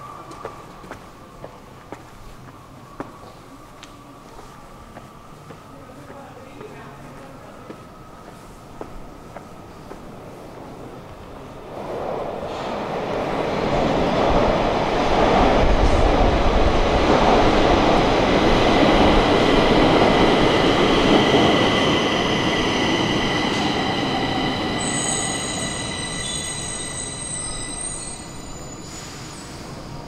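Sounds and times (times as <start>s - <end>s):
metro train rumble: 0.0s - 30.0s.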